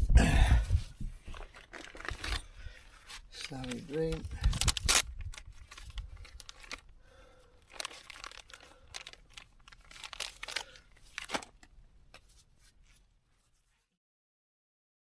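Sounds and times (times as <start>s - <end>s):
close rustling and crinkling: 0.6s - 14.0s.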